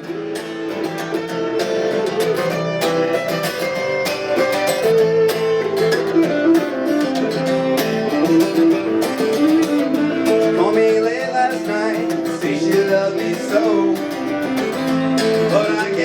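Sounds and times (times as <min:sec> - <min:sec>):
band playing guitar-led music: 0:00.0 - 0:16.0.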